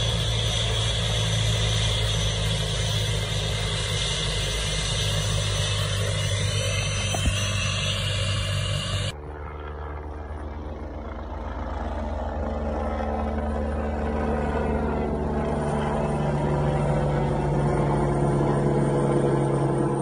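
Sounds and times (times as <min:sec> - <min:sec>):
helicopter rotor drone: 0:00.0 - 0:20.0.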